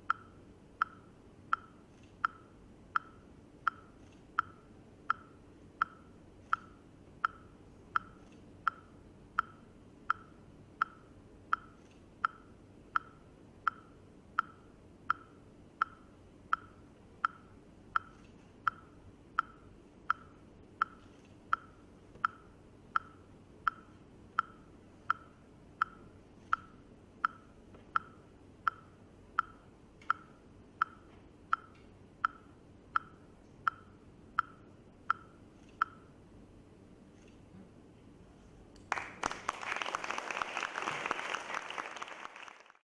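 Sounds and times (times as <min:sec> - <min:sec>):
metronome ticking: 0:00.0 - 0:36.1.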